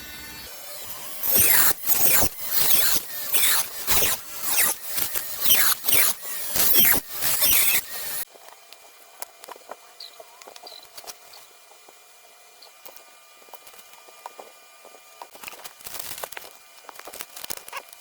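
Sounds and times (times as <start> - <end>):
small drill squealing: 0.0 - 8.3, 9.6 - 18.0.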